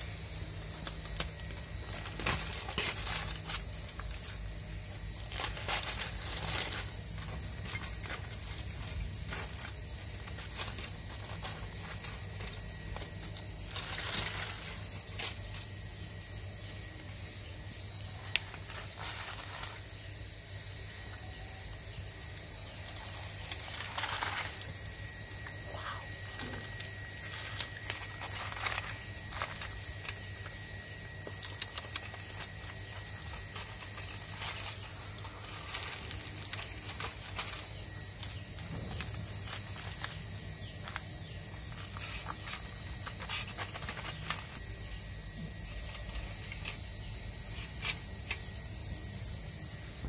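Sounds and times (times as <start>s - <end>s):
aluminium foil crinkling: 0.0s - 16.1s, 18.0s - 20.1s, 22.3s - 48.6s
high-pitched insect buzzing: 0.0s - 50.0s.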